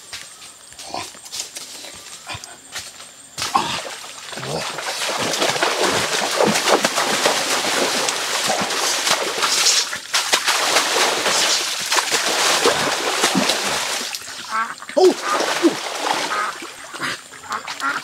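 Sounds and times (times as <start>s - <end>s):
hands splashing water: 3.4s - 18.0s.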